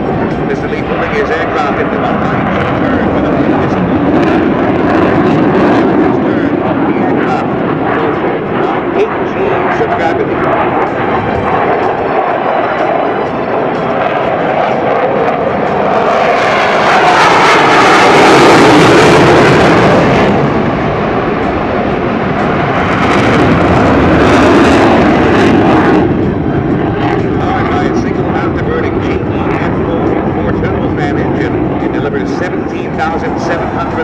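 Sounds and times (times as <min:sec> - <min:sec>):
jet engine passing: 0:00.0 - 0:34.0.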